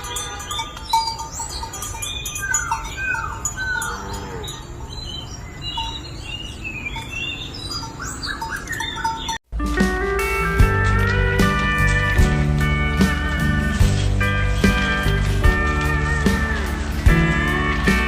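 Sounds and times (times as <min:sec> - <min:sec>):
birds chirping and calling: 0:00.0 - 0:09.4, 0:10.5 - 0:18.0.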